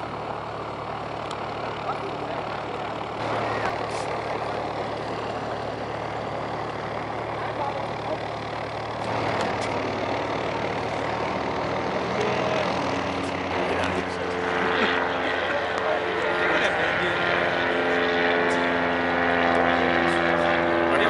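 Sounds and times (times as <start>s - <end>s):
broad noise: 0.0s - 21.0s
engine idling: 0.0s - 21.0s.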